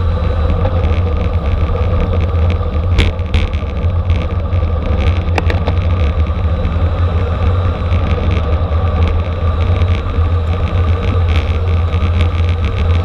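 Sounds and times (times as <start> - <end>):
bicycle road rumble: 0.0 - 13.0
wind rush: 0.0 - 13.0.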